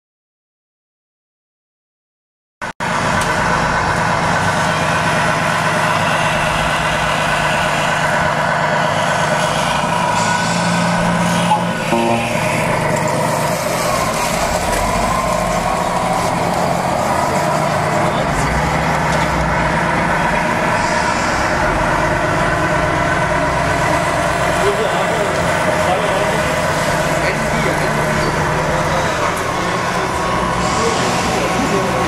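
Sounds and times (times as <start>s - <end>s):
toy truck diesel engine sound: 2.8s - 32.0s.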